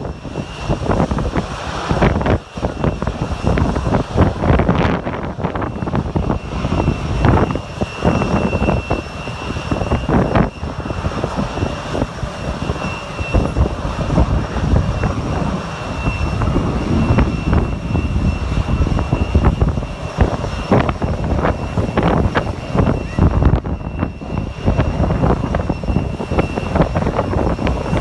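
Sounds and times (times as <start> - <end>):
jet engines whining and rumbling: 0.0 - 28.0.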